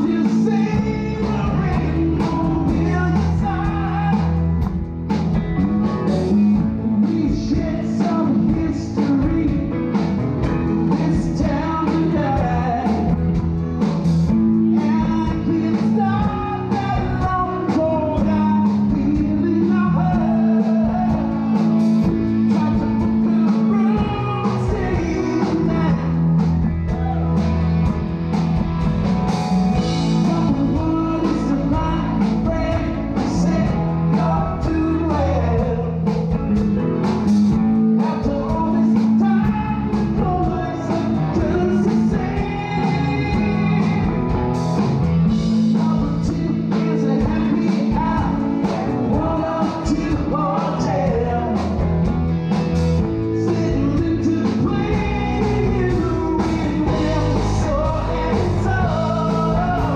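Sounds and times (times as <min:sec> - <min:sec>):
man singing lead vocal: 0:00.0 - 0:27.5, 0:29.7 - 0:59.9
bass guitar: 0:00.0 - 0:59.9
drums: 0:00.0 - 0:59.9
electric guitars: 0:00.0 - 0:59.9.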